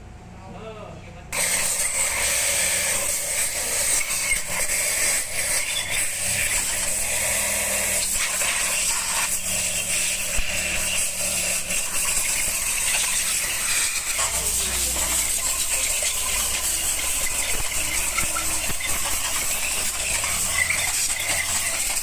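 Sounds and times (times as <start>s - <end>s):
steady hiss: 1.4s - 22.0s.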